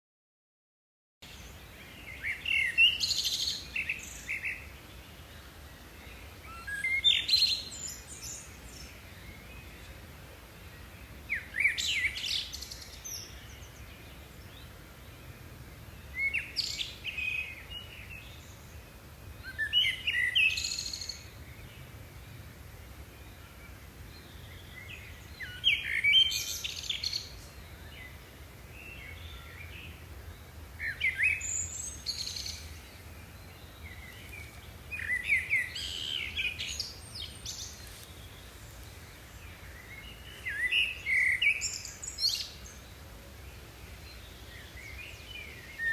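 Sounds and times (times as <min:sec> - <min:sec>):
songbird chirps and trills: 0:01.2 - 0:45.9.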